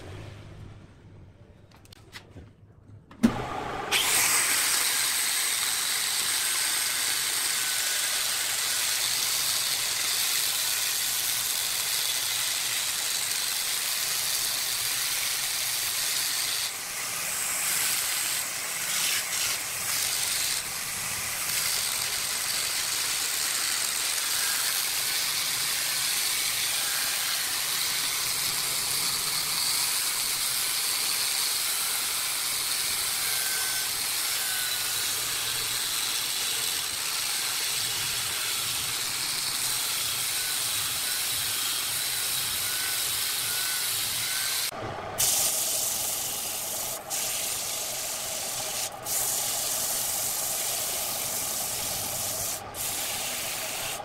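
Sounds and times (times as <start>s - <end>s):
angle grinder sanding wood: 3.4s - 54.0s.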